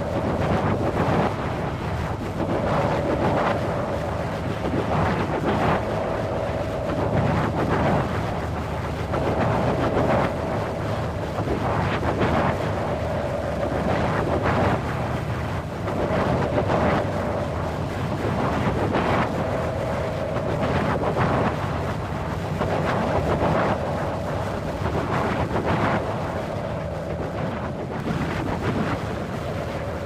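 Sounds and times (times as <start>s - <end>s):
wind blowing in gusts: 0.0s - 30.0s.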